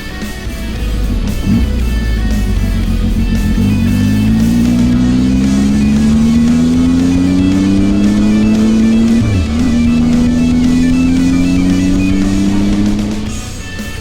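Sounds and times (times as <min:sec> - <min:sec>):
guitar music: 0:00.0 - 0:14.0
motorcycle engine accelerating: 0:00.0 - 0:14.0.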